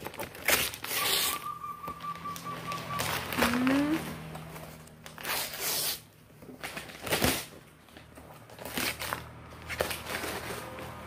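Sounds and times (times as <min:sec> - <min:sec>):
wrapping paper rustling and tearing: 0:00.0 - 0:01.4, 0:03.0 - 0:11.0.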